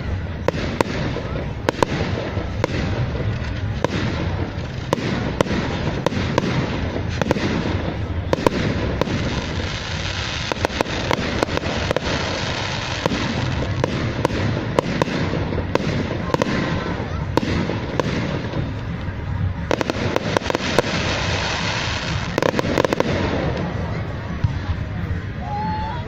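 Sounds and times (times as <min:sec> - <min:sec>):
fireworks cracks and bangs: 0:00.0 - 0:25.3
fireworks crackling: 0:00.0 - 0:26.0.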